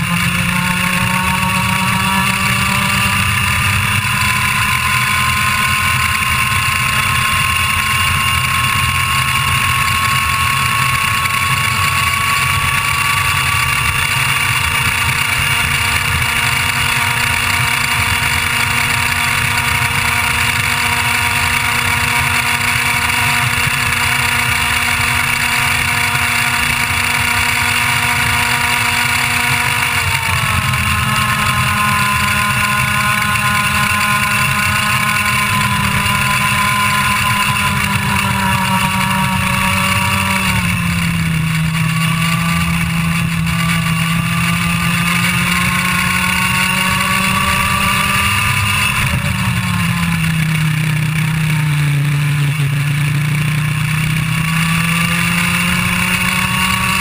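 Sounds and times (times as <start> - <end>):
kart engine at full throttle: 0.0 - 57.0.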